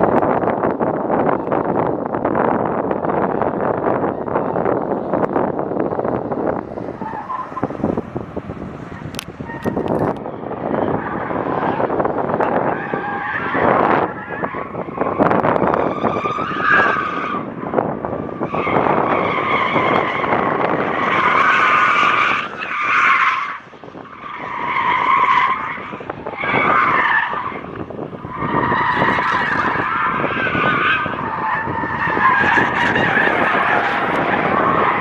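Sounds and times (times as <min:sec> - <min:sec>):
car tyres squealing: 0:00.0 - 0:35.0
wind noise on microphone: 0:00.0 - 0:35.0.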